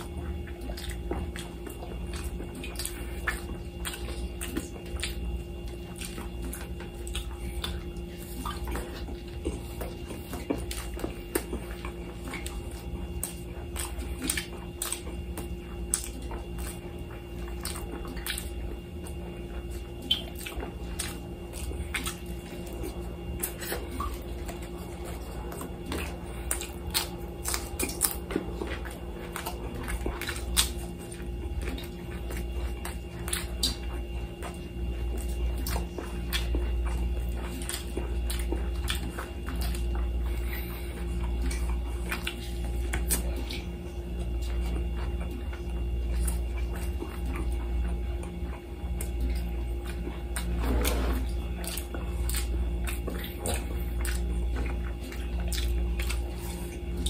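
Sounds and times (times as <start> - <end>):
lip smacks: 0.0 - 57.0
low hum: 0.0 - 57.0
person chewing with mouth clicks: 0.0 - 57.0.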